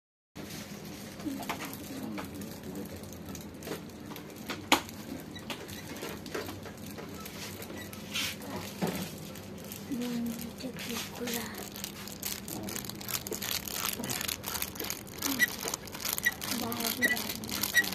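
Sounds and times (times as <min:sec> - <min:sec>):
low steady hum: 0:00.4 - 0:17.9.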